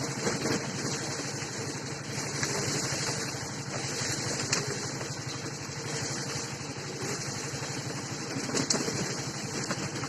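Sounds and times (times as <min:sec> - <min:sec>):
motor engine running: 0:00.0 - 0:10.0.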